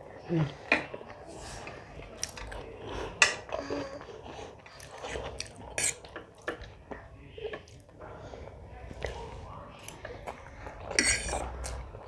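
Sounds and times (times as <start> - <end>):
person chewing food: 0.6 - 8.0, 8.9 - 12.0.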